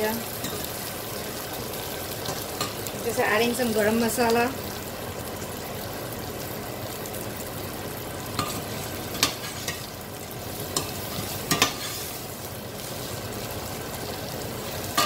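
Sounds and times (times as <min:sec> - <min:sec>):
okra sizzling in oil: 0:00.0 - 0:15.0.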